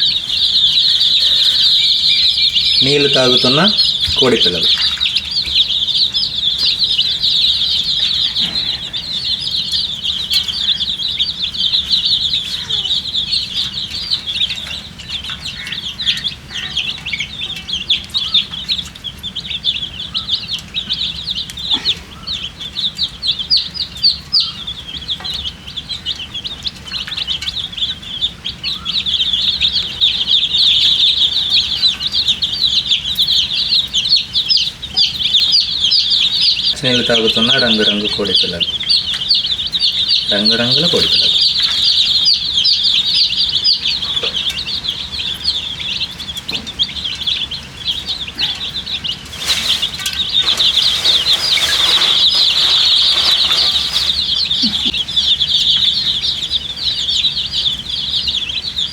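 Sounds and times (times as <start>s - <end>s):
baby chicks peeping: 0.0s - 58.9s.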